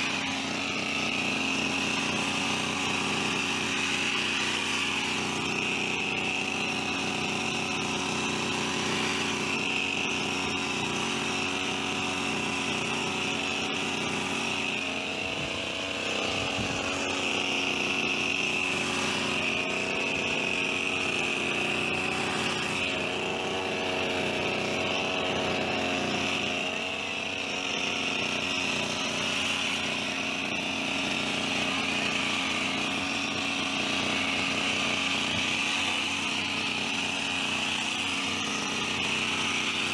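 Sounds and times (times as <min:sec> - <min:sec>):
hedge trimmer engine running: 0:00.0 - 0:39.9.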